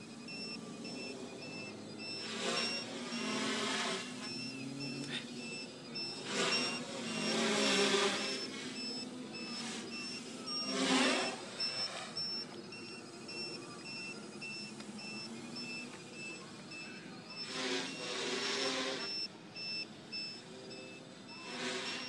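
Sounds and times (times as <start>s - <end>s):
high beep: 0.0s - 18.4s, 19.0s - 22.0s
quadcopter motors surging: 0.0s - 22.0s.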